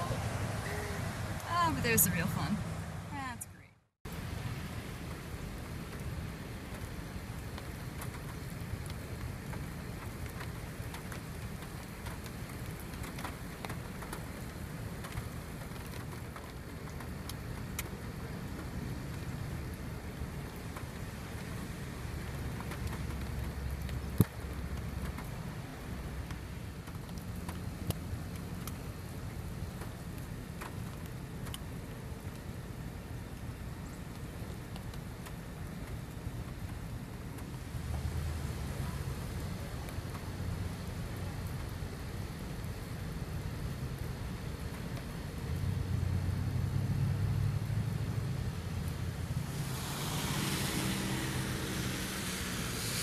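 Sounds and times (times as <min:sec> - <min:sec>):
rain pattering on a car: 0:04.1 - 0:53.0.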